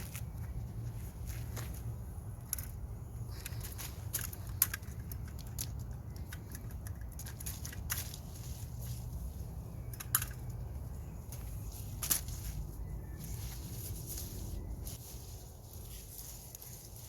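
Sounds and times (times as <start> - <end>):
low steady rumble: 0.0 - 17.0
rustling and crackling of plants: 0.0 - 17.0.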